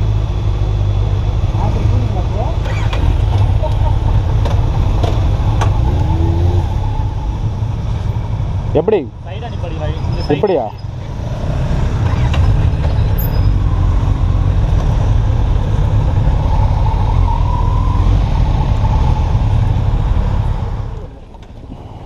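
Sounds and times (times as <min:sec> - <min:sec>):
motorcycle engine: 0:00.0 - 0:21.6.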